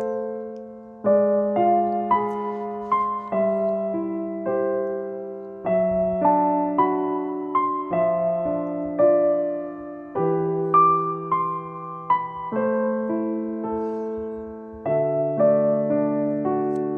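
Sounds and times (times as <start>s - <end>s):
gentle piano music: 0.0s - 16.9s.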